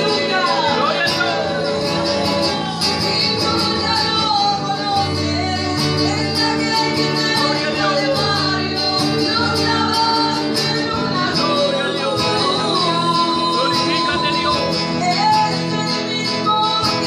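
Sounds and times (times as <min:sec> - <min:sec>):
acoustic guitar: 0:00.0 - 0:17.0
woman singing into a microphone: 0:00.0 - 0:17.0.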